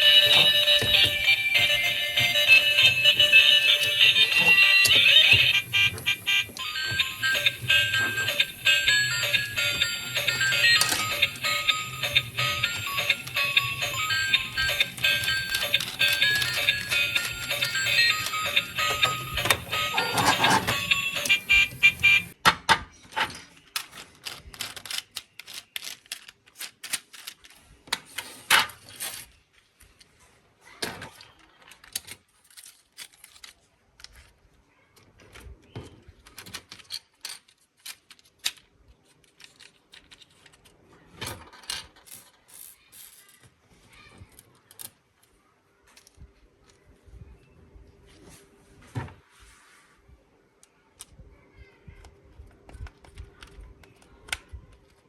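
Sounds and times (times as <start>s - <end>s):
plastic toy parts clicking: 0.0s - 30.1s, 30.8s - 42.6s, 44.3s - 46.2s, 52.7s - 55.0s.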